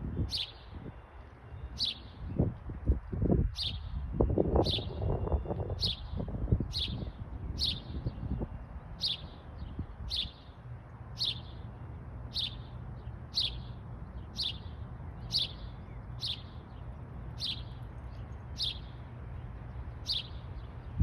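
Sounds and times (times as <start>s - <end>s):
songbird sharp chirp: 0.0s - 10.6s, 11.2s - 11.7s, 12.3s - 21.0s.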